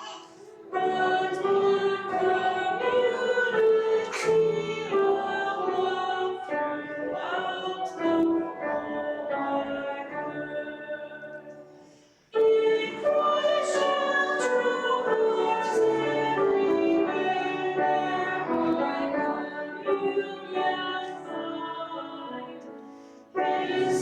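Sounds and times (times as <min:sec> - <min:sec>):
hymn sung with instruments: 0:00.0 - 0:24.0.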